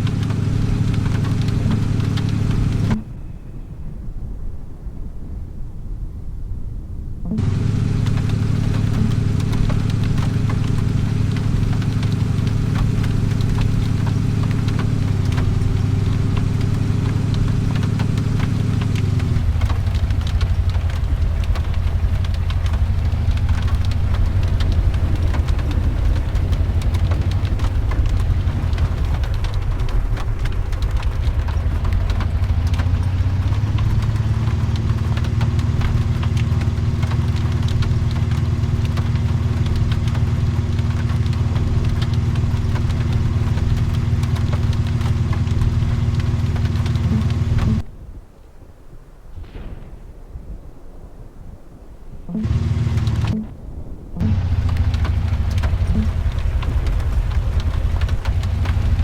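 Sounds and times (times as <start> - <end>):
car engine running: 0.0 - 3.1, 7.3 - 47.9, 52.3 - 53.6, 54.2 - 59.0
road noise: 0.0 - 48.2, 52.2 - 59.0
fine crackling patter: 0.0 - 59.0.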